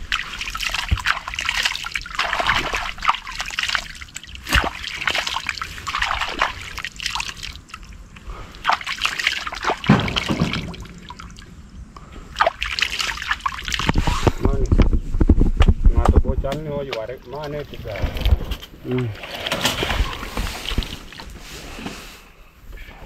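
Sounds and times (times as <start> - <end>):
muddy water splashing: 0.0 - 14.7, 16.9 - 21.6.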